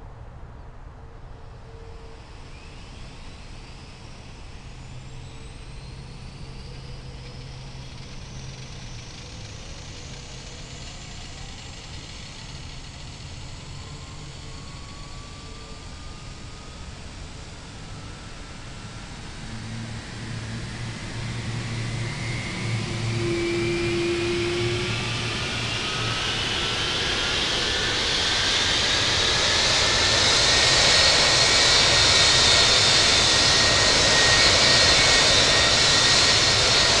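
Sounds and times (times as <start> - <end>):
jet engine starting up: 1.7 - 37.0.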